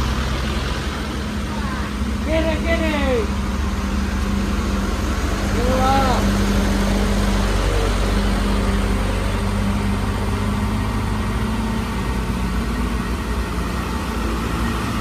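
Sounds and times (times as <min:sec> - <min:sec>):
heavy vehicle engine at low revs: 0:00.0 - 0:15.0.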